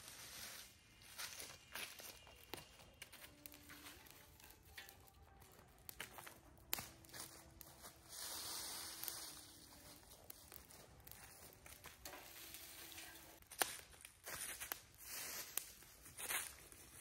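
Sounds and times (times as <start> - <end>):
dry leaves and twigs rustling: 0.0 - 17.0
fire snapping and crackling: 0.0 - 17.0.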